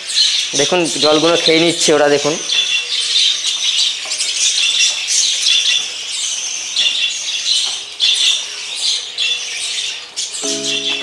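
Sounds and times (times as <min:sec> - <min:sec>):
flock of budgerigars chattering: 0:00.0 - 0:11.0.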